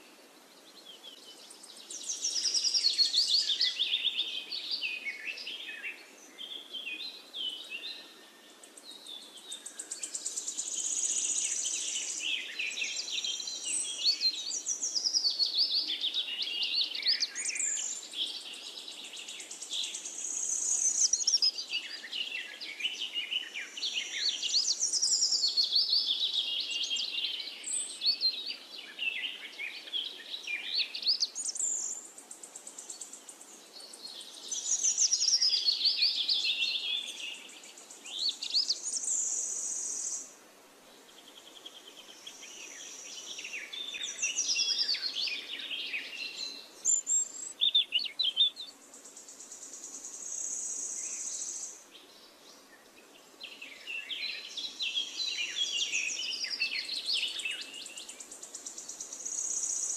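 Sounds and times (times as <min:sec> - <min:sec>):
faint steady hiss: 0:00.0 - 0:59.9
birds chirping and singing: 0:00.8 - 0:40.3, 0:41.4 - 0:52.8, 0:53.4 - 0:59.9.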